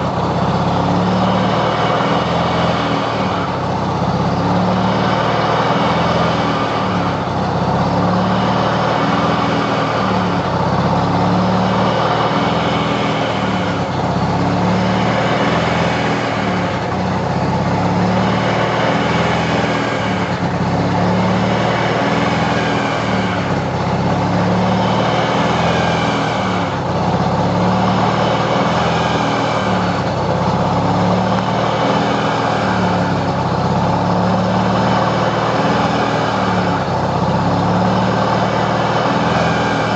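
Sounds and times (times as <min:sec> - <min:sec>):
rotary engine running: 0:00.0 - 0:39.9.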